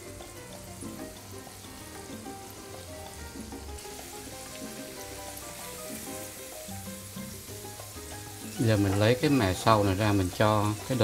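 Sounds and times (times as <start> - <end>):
background music: 0.0 - 11.0
hot oil sizzling: 0.0 - 11.0.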